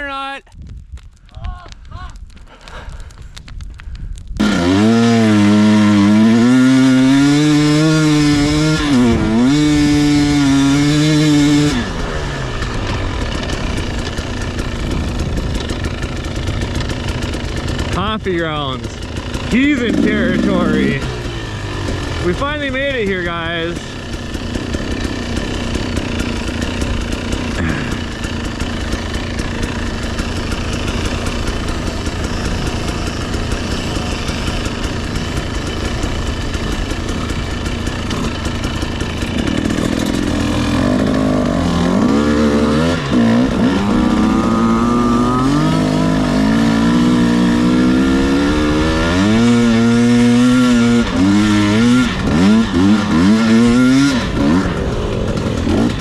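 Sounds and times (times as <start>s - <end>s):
dirt bike engine revving: 4.4s - 56.0s.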